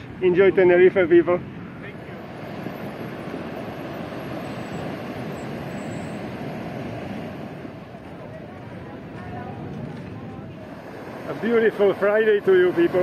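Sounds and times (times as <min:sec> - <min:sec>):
wind on microphone: 0:01.4 - 0:13.0
surf breaking on shore: 0:01.8 - 0:08.4, 0:09.0 - 0:13.0.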